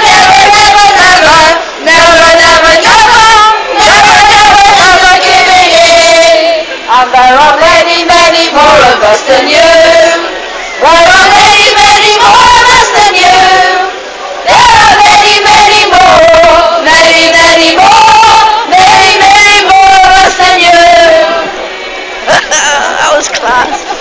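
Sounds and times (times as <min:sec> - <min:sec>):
women singing together: 0:00.0 - 0:22.4.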